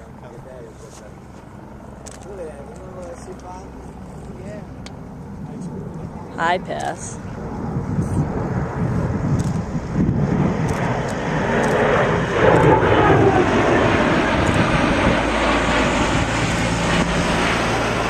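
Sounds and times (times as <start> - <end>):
jet aircraft flyby: 0.0 - 18.0.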